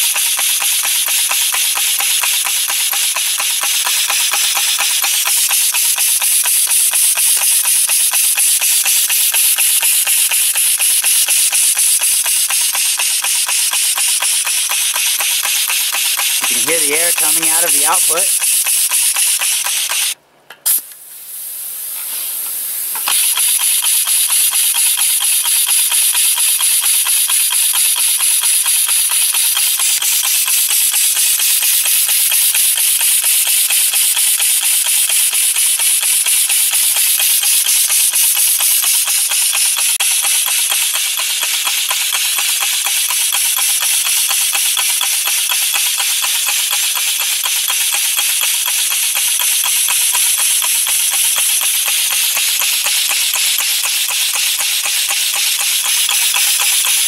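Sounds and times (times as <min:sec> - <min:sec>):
pulsing air exhaust hiss: 0:00.0 - 0:57.0.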